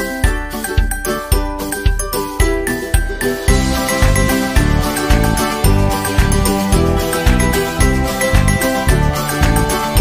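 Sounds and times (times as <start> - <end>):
cheerful background music: 0.0 - 10.0.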